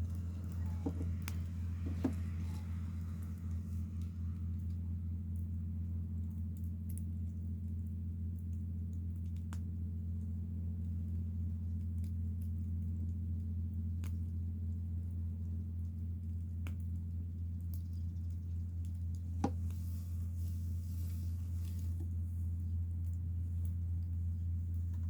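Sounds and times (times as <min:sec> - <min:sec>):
bonfire crackles: 0:00.0 - 0:25.0
steady low hum: 0:00.0 - 0:25.0.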